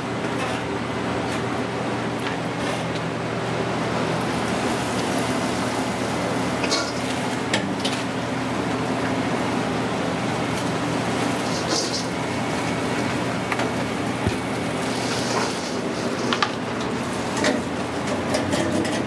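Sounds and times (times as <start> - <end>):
kitchen machinery humming: 0.0 - 19.0.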